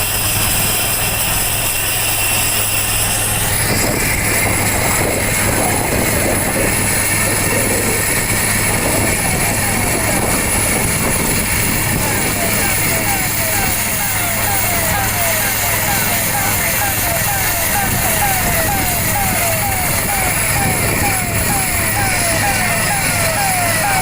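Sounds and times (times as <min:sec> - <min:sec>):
helicopter rotor hum: 0:00.0 - 0:24.0
helicopter turbine whine: 0:00.0 - 0:24.0.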